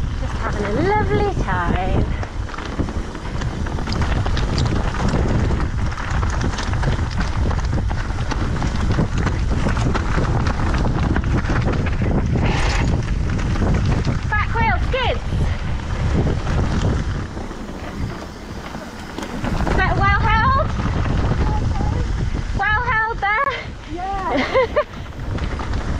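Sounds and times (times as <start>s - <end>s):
bike rattling and knocking: 0.0s - 25.9s
tyres rolling over gravel: 0.0s - 25.9s
wind on microphone: 0.0s - 25.9s.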